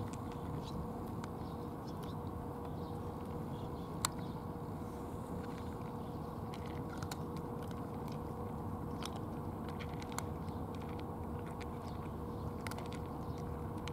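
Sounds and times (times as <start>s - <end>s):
cats crunching dry kibble: 0.0s - 13.9s
faint hum: 0.0s - 13.9s.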